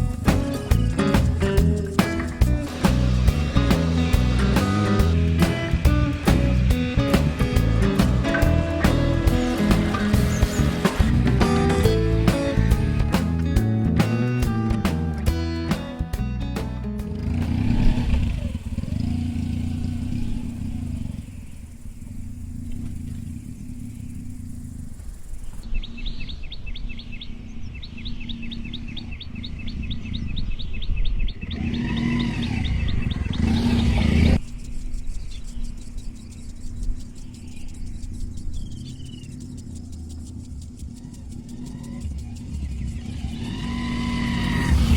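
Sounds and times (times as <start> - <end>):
bird chirping: 0.0 - 12.8, 17.7 - 44.9
motorcycle engine running: 0.0 - 25.6, 28.3 - 44.9.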